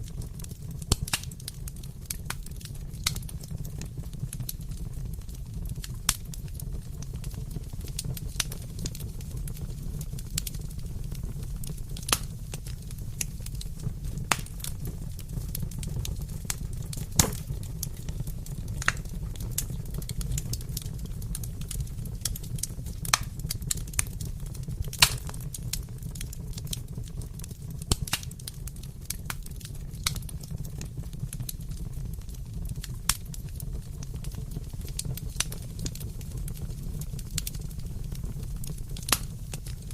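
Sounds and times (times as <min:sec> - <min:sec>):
fire crackling: 0:00.0 - 0:39.9
fire pops and snaps: 0:00.0 - 0:39.9.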